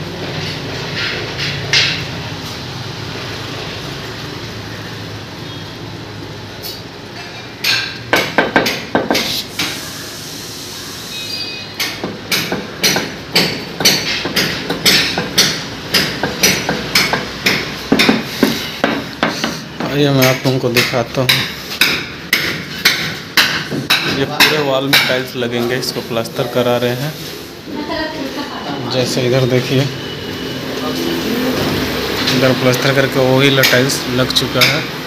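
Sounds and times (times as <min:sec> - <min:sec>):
steady background noise: 0:00.0 - 0:35.0.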